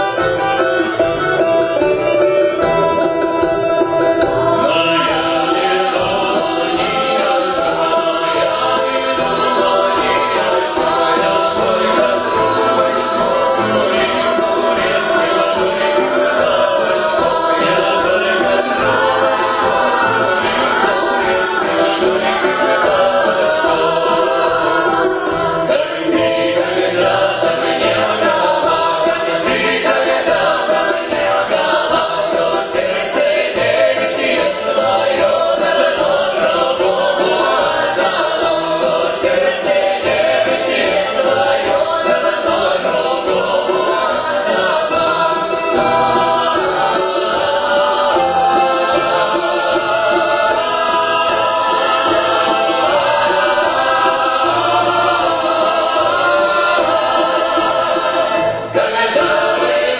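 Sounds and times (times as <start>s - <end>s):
folk choir singing in harmony: 0.0s - 59.9s.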